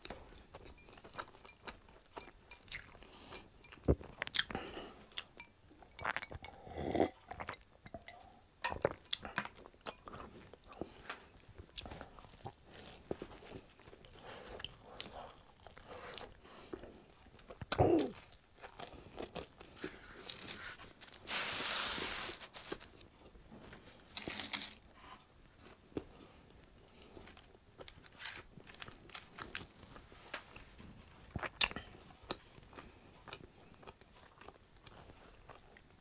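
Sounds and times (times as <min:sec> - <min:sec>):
chewing and crunching food: 0:00.0 - 0:21.5, 0:25.6 - 0:36.0.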